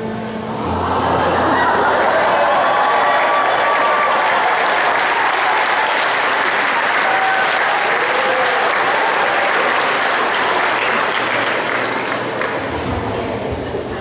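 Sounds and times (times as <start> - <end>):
audience applauding: 0.8 - 12.8.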